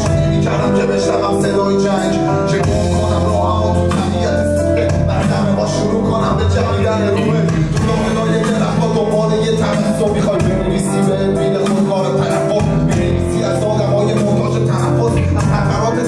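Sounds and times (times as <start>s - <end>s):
drum kit: 0.0s - 16.0s
person singing into a microphone: 0.0s - 16.0s.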